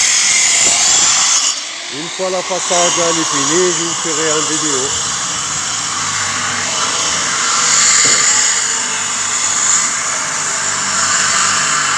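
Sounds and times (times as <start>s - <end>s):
power tool whining: 0.0s - 11.9s.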